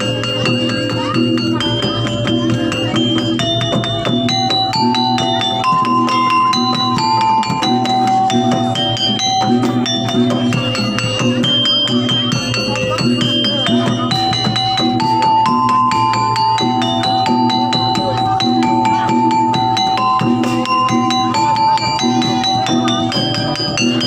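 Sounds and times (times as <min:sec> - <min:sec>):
drums: 0:00.0 - 0:24.0
struck metal keyed instruments: 0:00.0 - 0:24.0.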